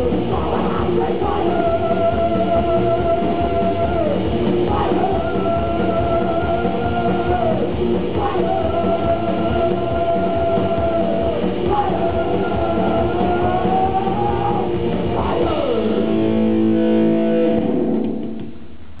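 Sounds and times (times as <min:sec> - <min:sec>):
live rock band playing: 0:00.0 - 0:18.4.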